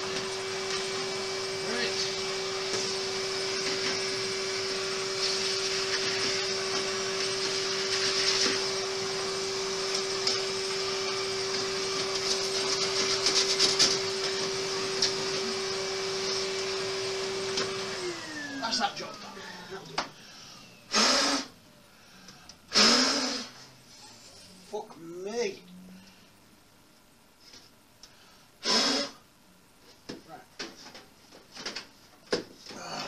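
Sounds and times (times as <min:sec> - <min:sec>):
vacuum cleaner humming: 0:00.0 - 0:26.2, 0:28.6 - 0:29.2.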